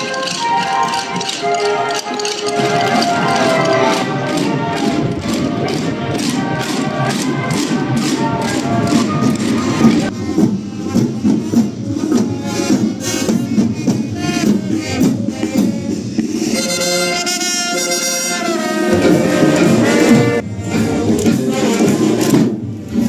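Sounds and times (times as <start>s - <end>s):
band music playing: 0.0s - 23.0s
drums beating a march: 0.0s - 23.0s.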